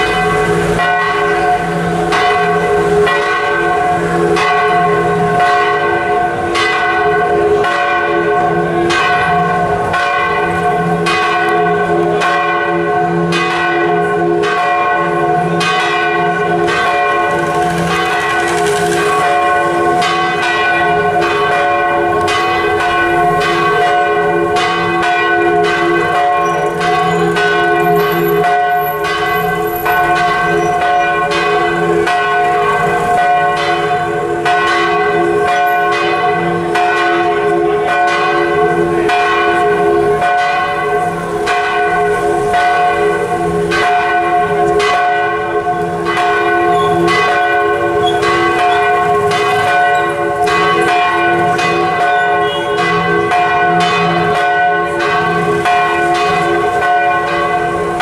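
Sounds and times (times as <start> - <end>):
church bells pealing: 0.0 - 58.0.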